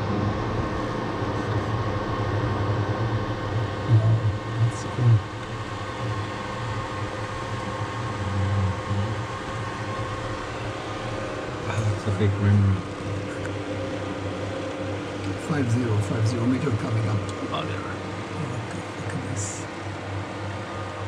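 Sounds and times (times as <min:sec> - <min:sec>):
submersible machinery humming: 0:00.0 - 0:21.0.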